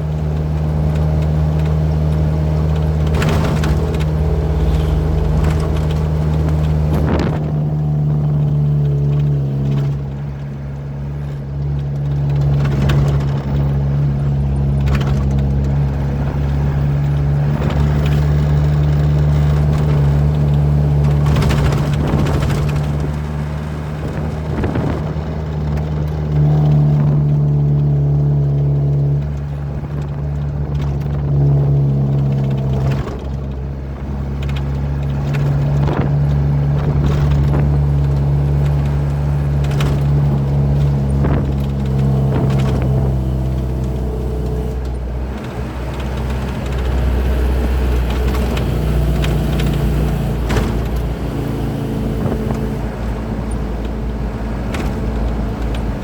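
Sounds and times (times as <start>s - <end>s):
diesel truck engine running: 0.0s - 56.0s
road noise: 0.0s - 56.0s.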